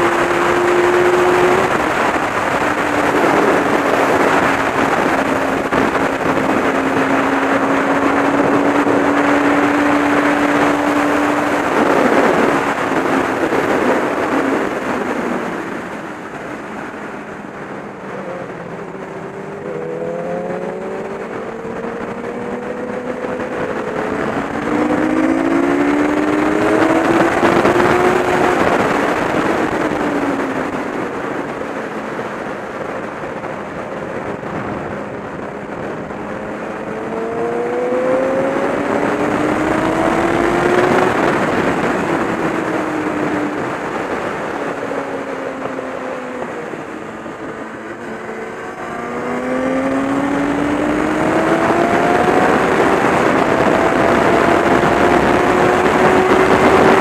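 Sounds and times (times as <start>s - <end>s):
motorcycle engine: 0.0s - 57.0s
wind rush: 0.0s - 57.0s.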